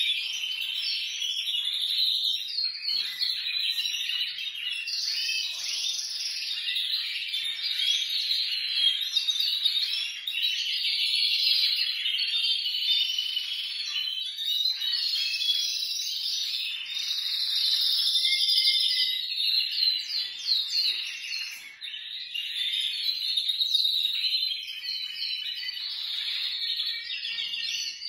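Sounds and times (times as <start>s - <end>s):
canaries singing in chorus: 0.0s - 28.0s.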